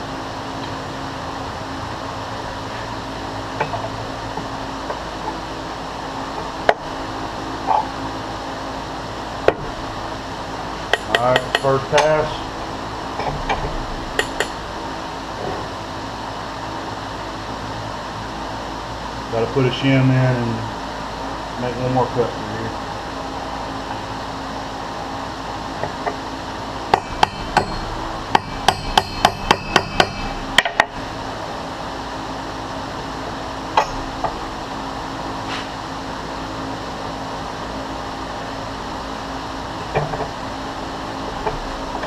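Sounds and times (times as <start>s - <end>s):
steady shop hum: 0.0s - 42.0s.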